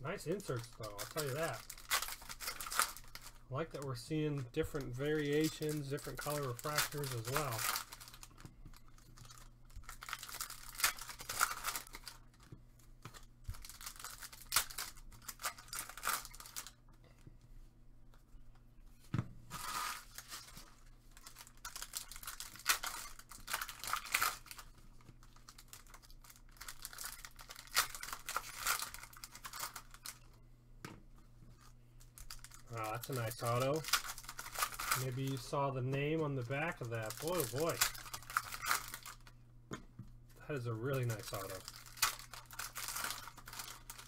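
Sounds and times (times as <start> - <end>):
foil wrappers tearing and crinkling: 0.1 - 16.8, 19.6 - 30.3, 31.6 - 39.3, 40.5 - 44.0.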